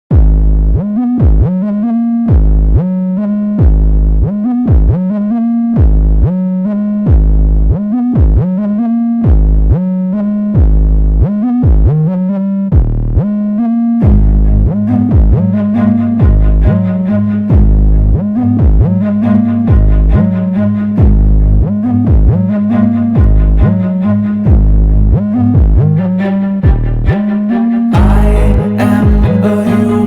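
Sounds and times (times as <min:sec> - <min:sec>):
deep pulsing bass: 0:00.1 - 0:30.0
sliding synthesizer notes: 0:00.1 - 0:30.0.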